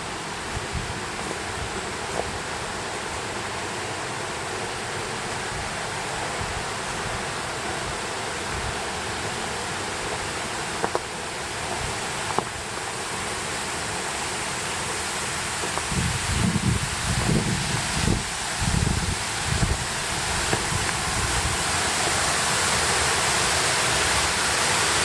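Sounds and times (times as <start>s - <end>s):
mountain stream rushing: 0.0s - 25.0s.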